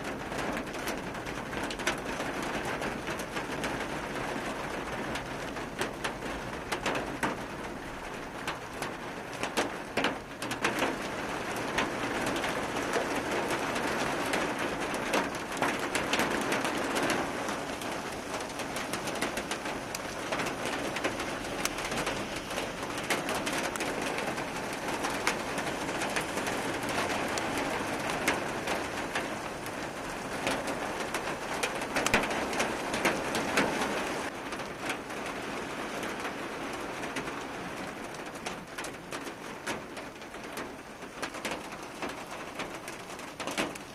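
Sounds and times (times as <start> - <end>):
hailstones ticking: 0.0 - 43.9
heavy rain on a paved road: 0.0 - 43.9.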